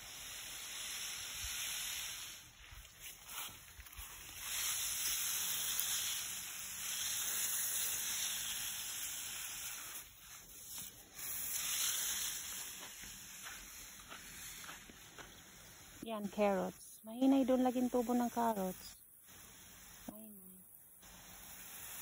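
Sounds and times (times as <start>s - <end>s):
hose spray hissing onto soil: 0.0s - 22.0s.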